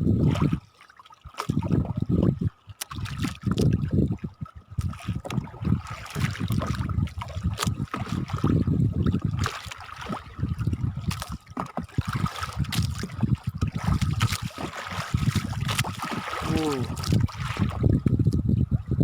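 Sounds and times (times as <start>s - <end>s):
wind buffeting microphone: 0.0s - 0.7s, 1.4s - 19.0s
waves slapping against boat hull: 0.1s - 18.5s.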